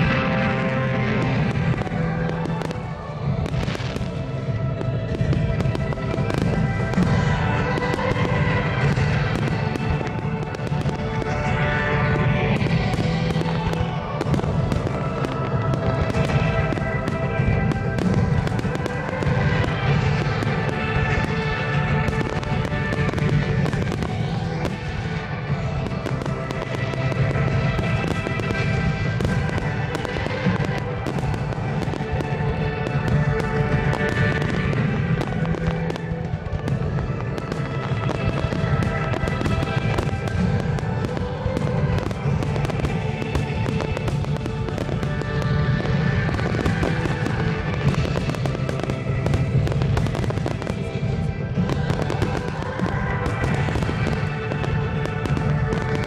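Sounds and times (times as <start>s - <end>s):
music playing: 0.0s - 56.0s.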